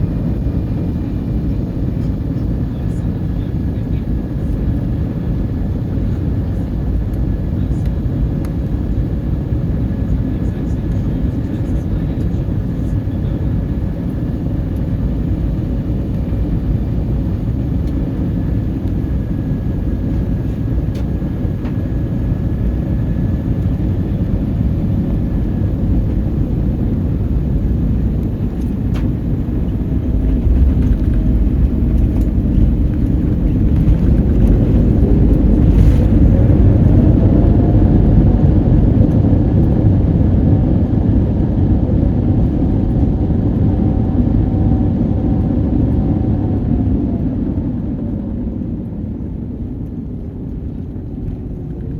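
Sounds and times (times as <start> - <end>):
aircraft cabin engine rumble: 0.0 - 51.9.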